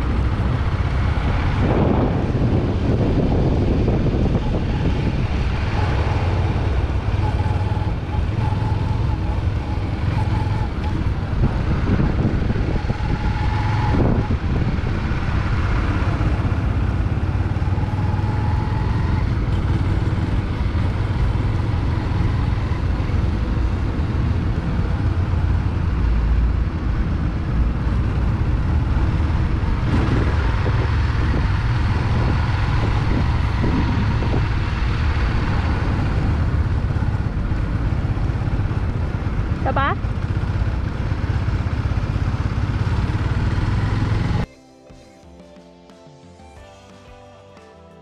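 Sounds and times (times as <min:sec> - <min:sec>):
motorcycle engine running: 0:00.0 - 0:44.5
wind rumbling on microphone: 0:00.0 - 0:44.5.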